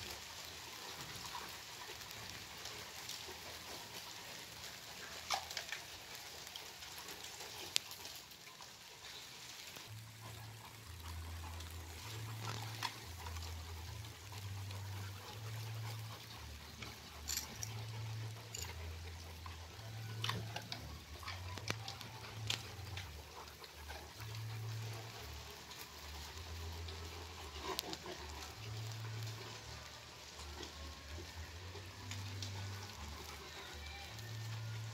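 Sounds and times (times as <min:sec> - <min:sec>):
dogs panting: 0:00.1 - 0:09.1, 0:09.7 - 0:34.9.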